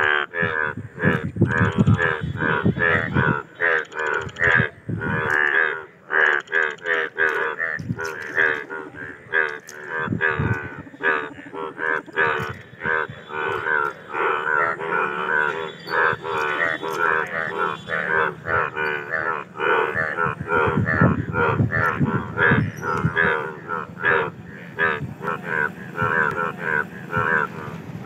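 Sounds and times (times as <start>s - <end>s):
bullfrogs croaking: 0.0s - 28.0s.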